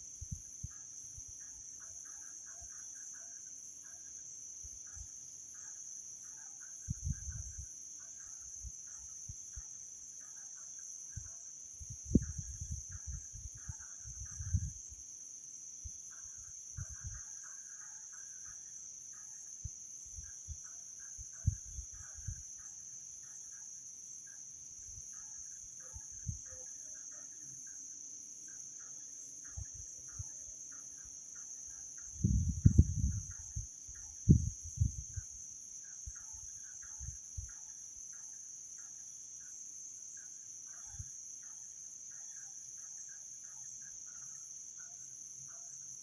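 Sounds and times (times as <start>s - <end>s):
crickets chirring: 0.0s - 46.0s.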